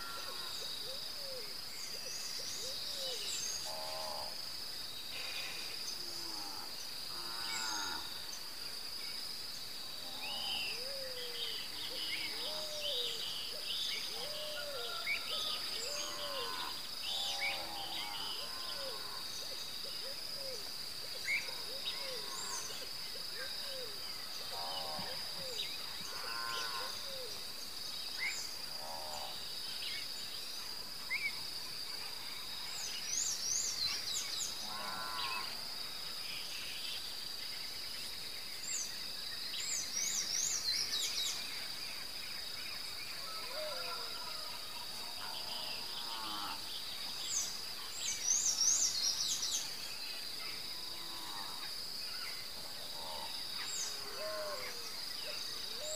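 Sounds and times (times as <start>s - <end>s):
insect drone: 0.0s - 55.9s.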